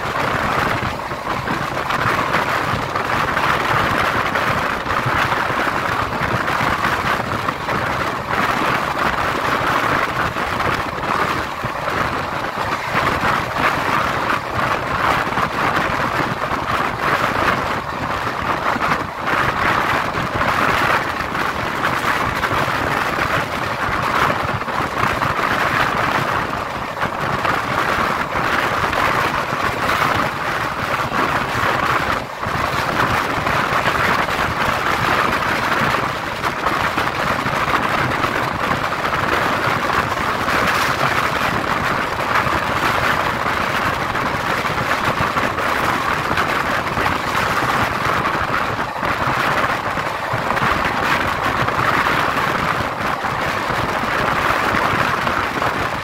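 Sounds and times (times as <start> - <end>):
train wheels rushing on rail: 0.0 - 56.0.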